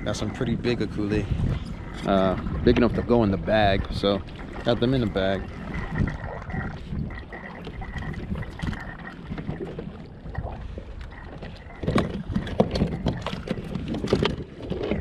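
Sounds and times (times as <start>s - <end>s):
knocks and clatter on kayak: 0.0s - 15.0s
water noise: 0.0s - 15.0s
wind: 0.0s - 15.0s.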